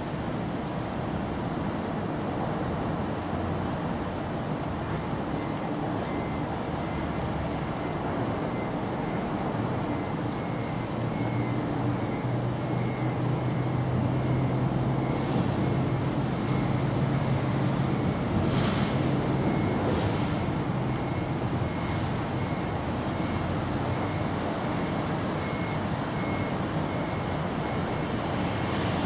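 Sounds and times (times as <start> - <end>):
road traffic rumble: 0.0 - 29.0
vehicle engine hum: 0.0 - 29.0.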